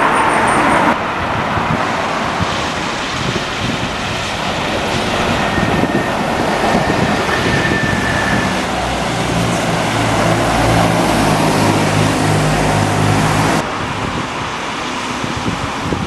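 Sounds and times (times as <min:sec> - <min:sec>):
large vehicle engine hum: 0:00.0 - 0:16.0
loud rushing noise: 0:00.0 - 0:16.0
traffic noise: 0:00.0 - 0:16.0.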